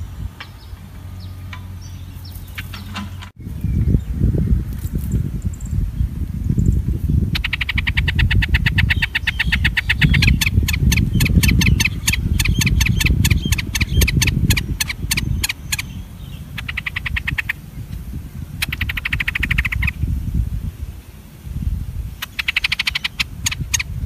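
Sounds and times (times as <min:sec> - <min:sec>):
birds chirping: 0:00.0 - 0:20.1, 0:22.0 - 0:24.0
wind noise rumble: 0:00.0 - 0:24.0.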